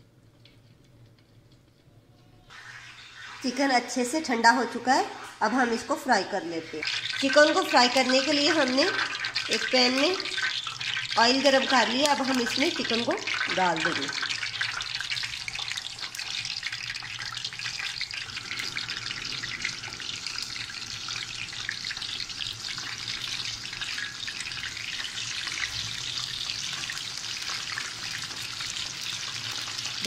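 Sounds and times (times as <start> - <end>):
chicken deep-frying in oil: 2.4 - 30.0.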